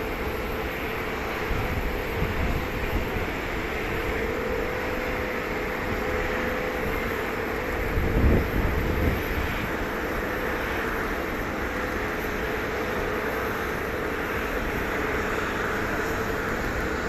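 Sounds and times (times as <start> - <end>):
jet engine rush and whine: 0.0 - 17.0.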